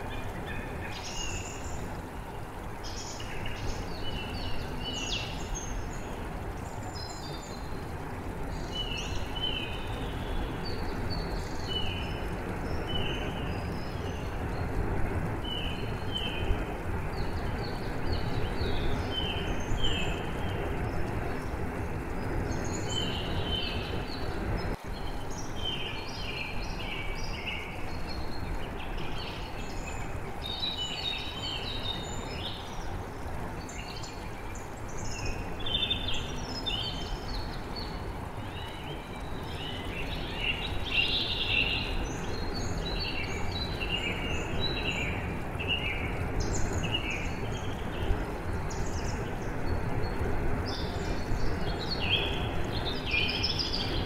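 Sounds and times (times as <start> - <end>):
flowing water: 0.0 - 54.0
songbirds chirping and singing: 0.0 - 54.0.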